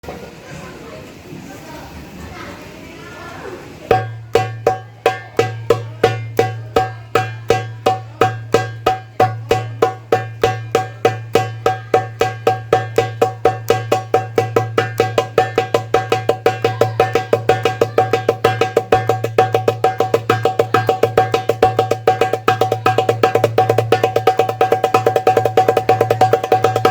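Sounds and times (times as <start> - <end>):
darbuka drum roll: 3.8 - 26.9.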